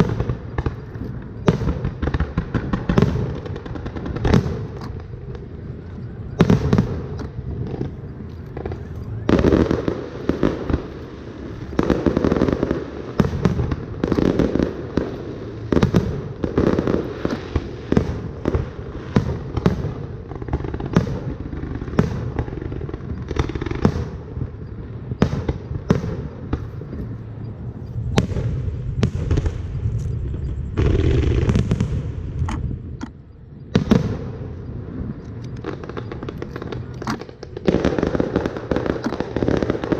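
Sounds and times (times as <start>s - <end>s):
fireworks booming and cracking: 0.0s - 39.9s.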